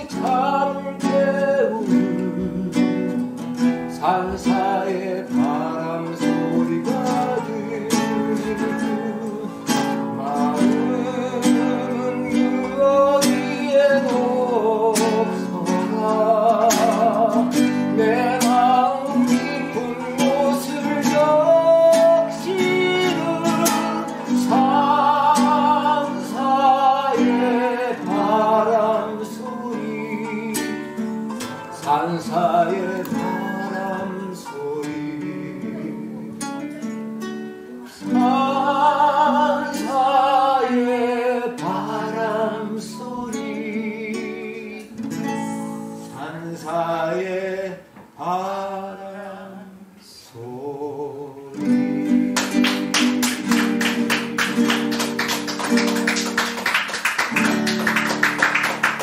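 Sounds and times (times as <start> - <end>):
acoustic guitar strumming chords: 0.0 - 50.0, 51.1 - 59.0.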